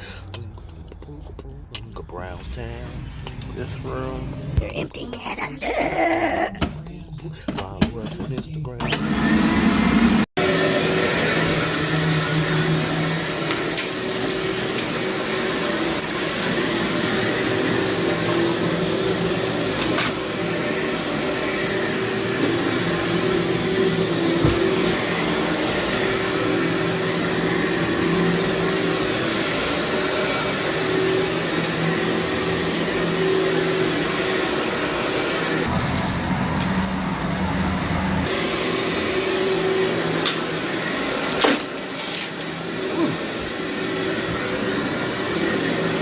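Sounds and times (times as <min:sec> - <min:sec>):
vacuum cleaner on carpet: 0:07.5 - 0:46.0.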